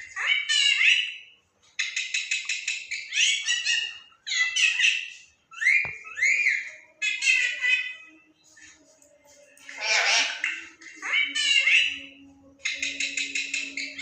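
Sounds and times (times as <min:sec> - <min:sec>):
parrot chirping and squawking: 0:00.0 - 0:01.2, 0:01.8 - 0:08.1, 0:09.6 - 0:14.0.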